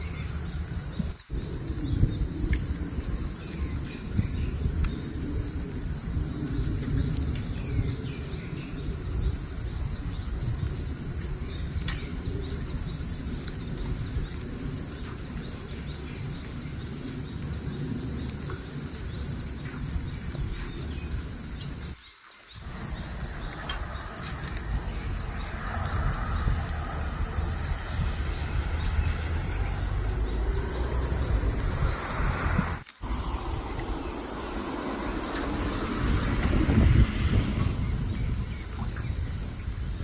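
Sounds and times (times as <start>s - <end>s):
low wind rumble: 0.0s - 22.0s, 22.6s - 40.0s
insects trilling: 0.0s - 40.0s.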